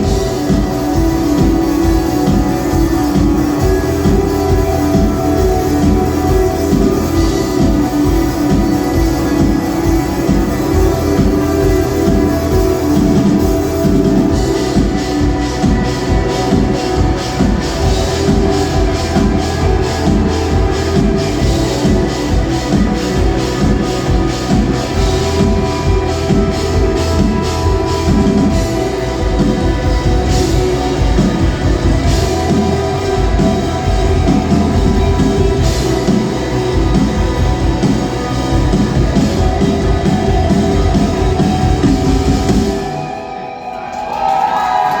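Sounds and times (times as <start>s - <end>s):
rock song with drums and guitar: 0.0s - 45.0s.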